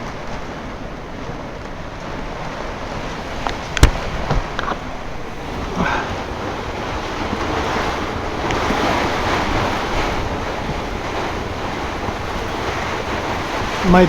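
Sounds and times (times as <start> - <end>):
strong wind and heavy rain: 0.0 - 14.0
wind buffeting microphone: 0.0 - 14.0.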